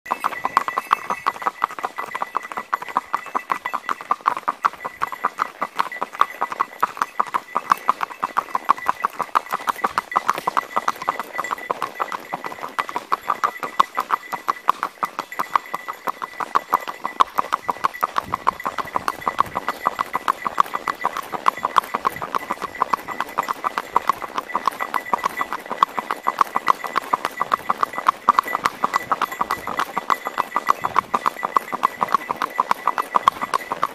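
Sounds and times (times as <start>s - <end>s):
horse hooves on asphalt: 0.1s - 33.9s.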